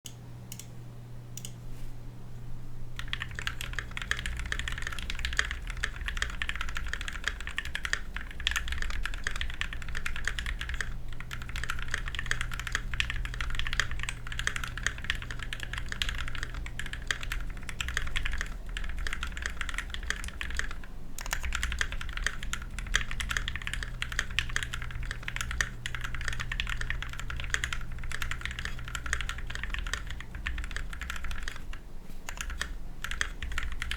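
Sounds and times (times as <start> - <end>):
steady low hum: 0.1 - 33.9
fast typing on mechanical keyboard: 3.0 - 33.9.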